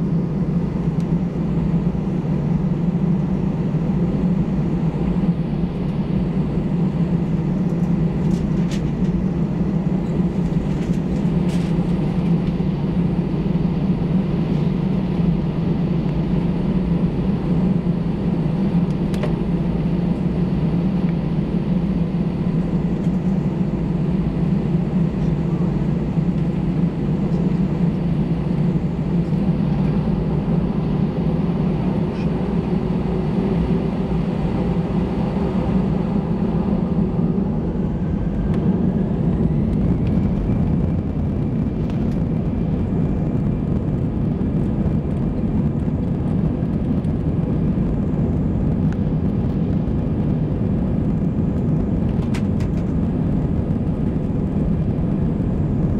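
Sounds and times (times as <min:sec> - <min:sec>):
aircraft engine and airflow roar: 0:00.0 - 0:55.9.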